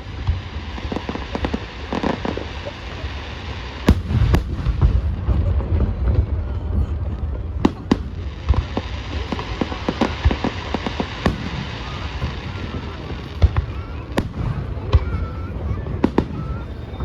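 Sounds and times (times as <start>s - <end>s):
distant fireworks rumble: 0.0s - 17.0s
fireworks crackling pops: 0.0s - 17.0s
heavy fireworks boom: 0.0s - 17.0s.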